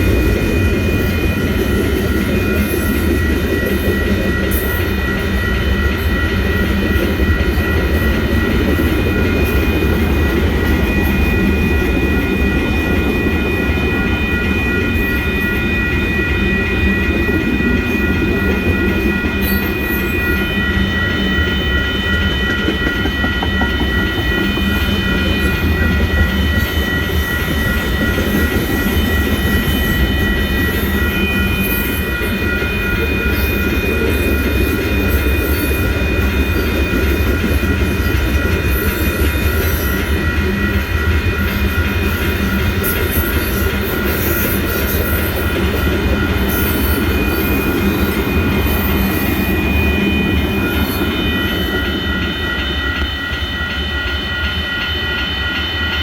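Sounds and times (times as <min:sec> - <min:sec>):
high-pitched tones ringing: 0:00.0 - 0:56.0
train wheels rumbling on rails: 0:00.0 - 0:56.0.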